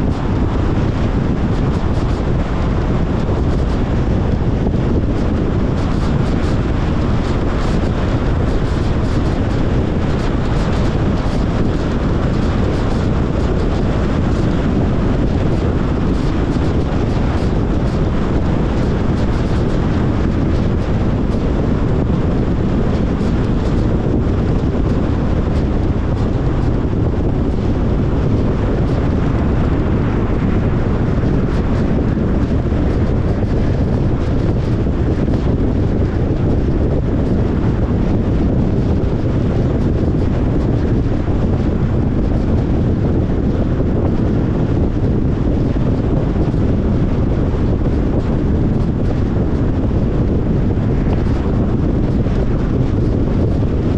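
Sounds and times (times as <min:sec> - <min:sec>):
rushing air: 0:00.0 - 0:53.9.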